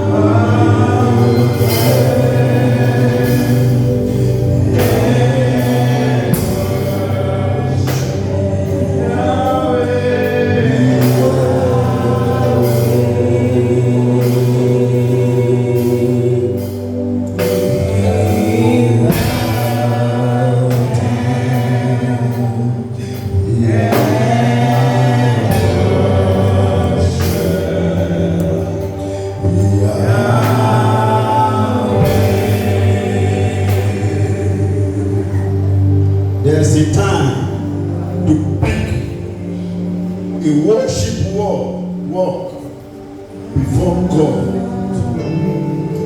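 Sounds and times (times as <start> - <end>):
sustained low accompaniment: 0.0 - 46.0
voices singing gospel: 0.0 - 46.0.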